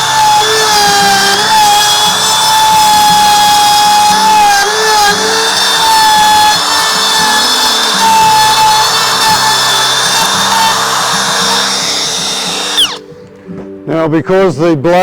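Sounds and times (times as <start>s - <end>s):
router cutting wood: 0.0s - 13.0s.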